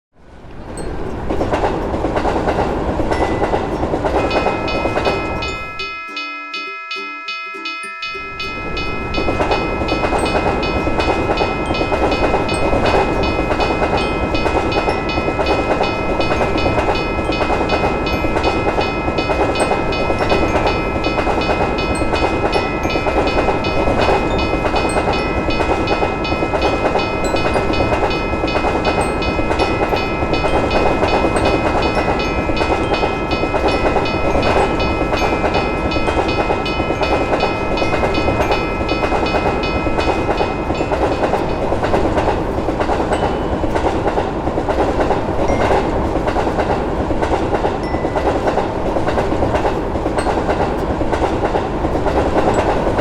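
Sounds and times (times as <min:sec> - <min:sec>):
passing train rumble and clatter: 0:00.2 - 0:07.0, 0:07.6 - 0:53.0
railroad crossing bell ringing: 0:00.6 - 0:53.0.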